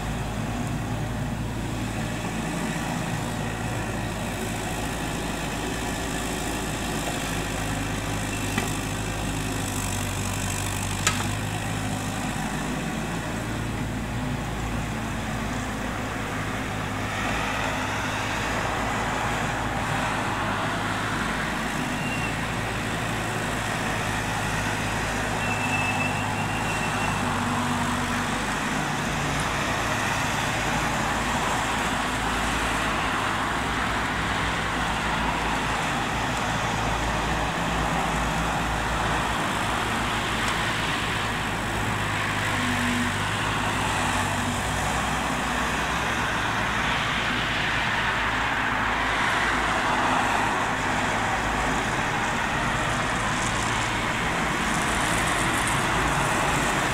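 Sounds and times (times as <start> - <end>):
mini excavator diesel engine: 0.0 - 56.9
road traffic passing: 0.0 - 56.9.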